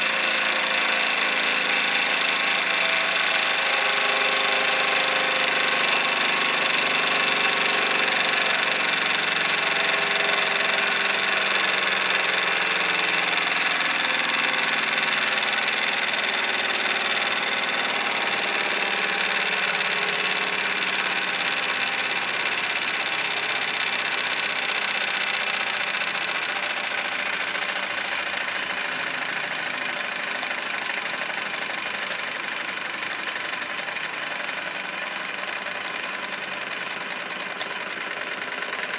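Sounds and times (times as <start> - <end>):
toy steam engine chattering: 0.0 - 38.9.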